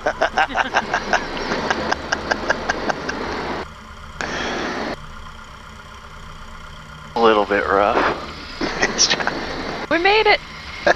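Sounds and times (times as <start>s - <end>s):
aircraft engine idling: 0.0s - 10.9s.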